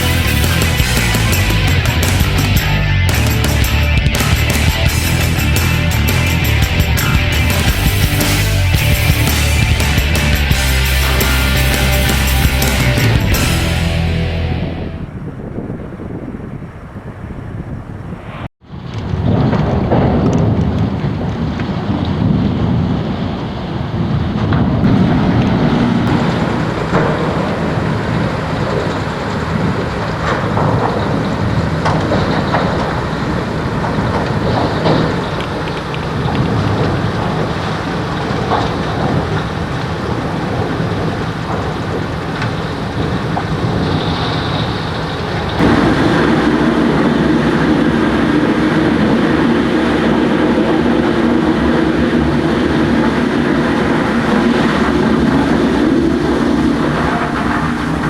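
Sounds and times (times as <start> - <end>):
wood chipper roaring: 0.0 - 15.0, 23.9 - 58.0.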